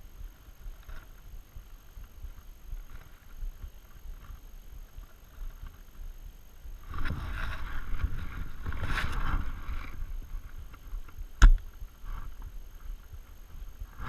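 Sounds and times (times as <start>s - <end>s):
rustling through brush: 0.1s - 14.0s.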